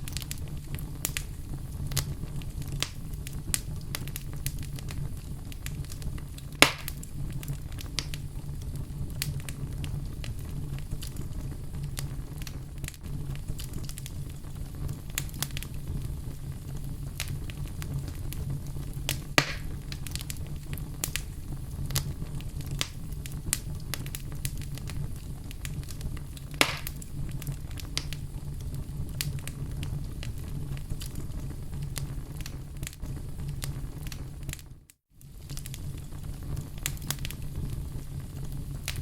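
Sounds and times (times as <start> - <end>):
fire crackling and popping: 0.0 - 39.0
low rumble of flames: 0.0 - 39.0.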